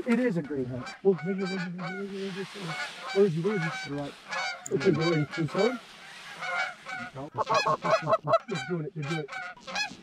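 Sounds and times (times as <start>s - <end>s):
geese honking in flight: 0.4s - 10.0s.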